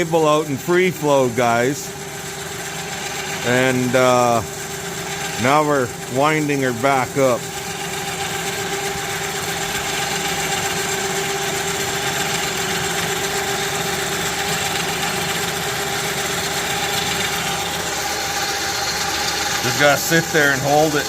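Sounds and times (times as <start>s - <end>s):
electric winch motor whining: 0.0s - 21.0s.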